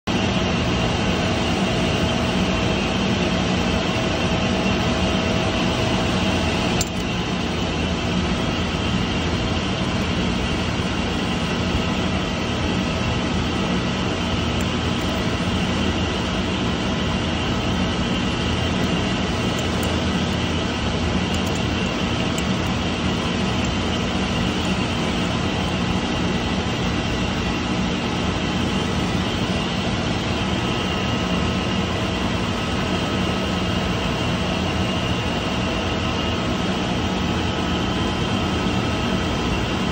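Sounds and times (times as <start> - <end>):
electric pumps humming: 0.1 - 39.9.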